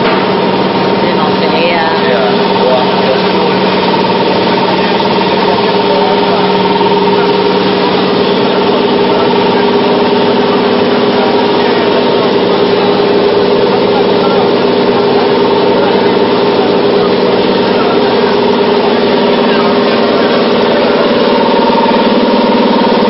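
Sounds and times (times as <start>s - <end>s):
machine hum with tones: 0.0s - 23.0s.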